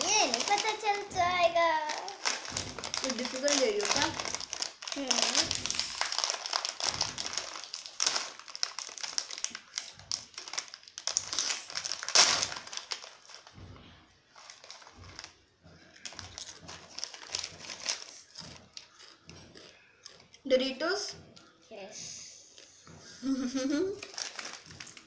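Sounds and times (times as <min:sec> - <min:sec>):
foil chip packet crinkling: 0:00.0 - 0:13.6, 0:14.3 - 0:20.4, 0:24.0 - 0:25.0.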